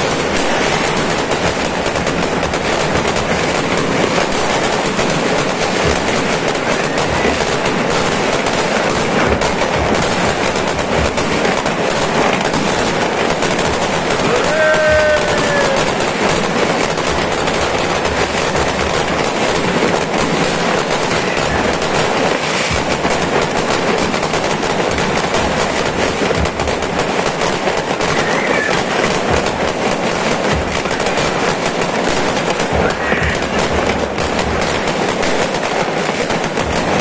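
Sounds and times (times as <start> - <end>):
deep firework booms: 0.0 - 37.0
fireworks crackling and popping: 0.0 - 37.0.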